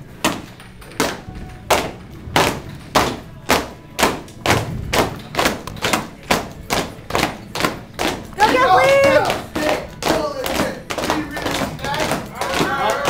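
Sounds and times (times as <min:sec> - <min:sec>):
stomps and claps on a beat: 0:00.2 - 0:13.0.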